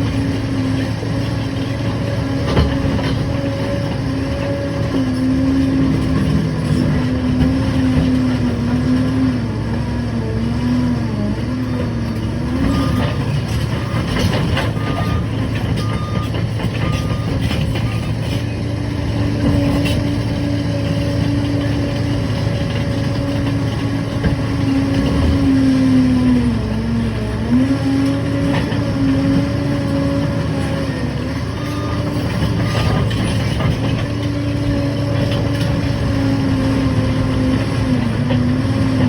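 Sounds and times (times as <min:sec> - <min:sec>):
crawler dozer diesel drone: 0:00.0 - 0:39.0.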